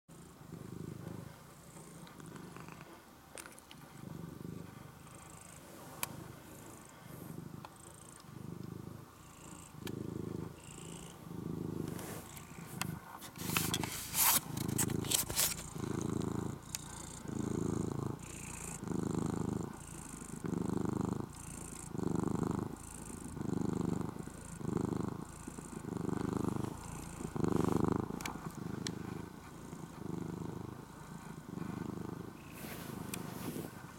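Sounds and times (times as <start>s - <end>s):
cat purring: 0.1s - 33.9s.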